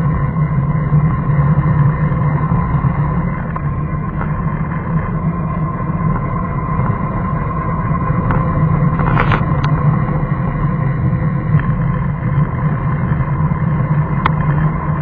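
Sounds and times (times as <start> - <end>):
road noise: 0.0 - 15.0
vehicle engine running: 0.0 - 15.0.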